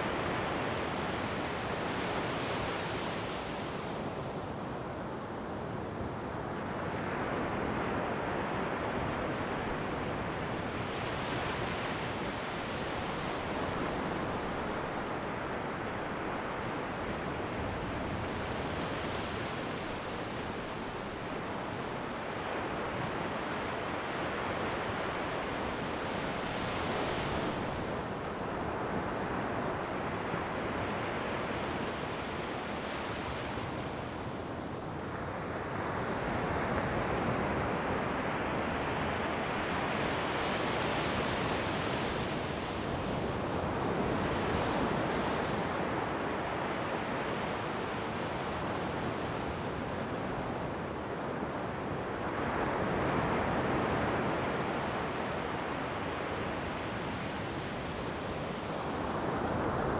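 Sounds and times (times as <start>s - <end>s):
wind: 0.0s - 59.9s
ocean waves breaking on shore: 6.5s - 59.9s.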